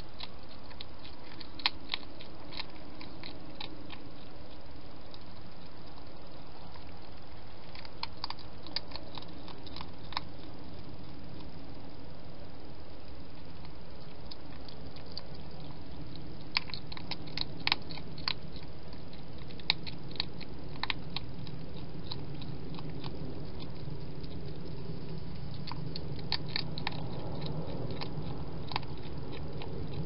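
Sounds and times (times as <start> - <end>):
hedgehog crunching and chewing: 0.0 - 30.0
steady low hum: 0.0 - 30.0.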